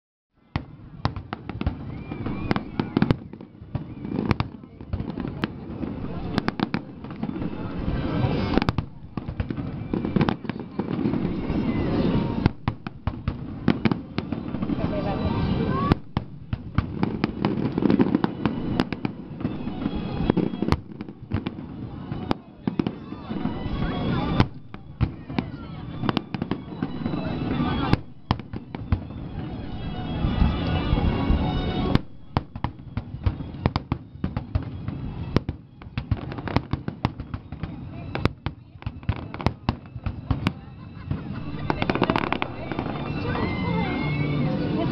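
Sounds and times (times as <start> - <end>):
fireworks bangs and cracks: 0.5 - 44.9.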